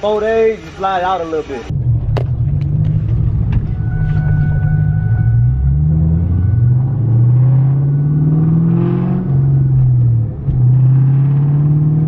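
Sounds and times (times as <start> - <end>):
car engine accelerating: 1.7 - 12.0.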